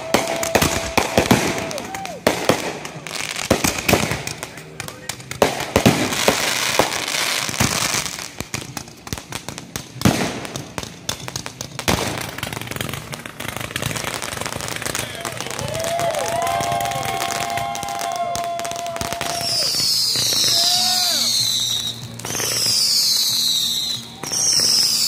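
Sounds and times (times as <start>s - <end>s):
big firework bangs: 0.0s - 25.0s
fireworks crackling: 0.0s - 25.0s.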